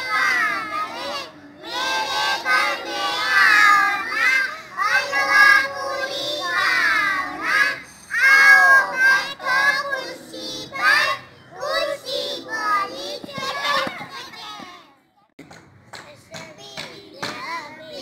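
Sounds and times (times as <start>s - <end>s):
young children singing: 0.0s - 14.8s.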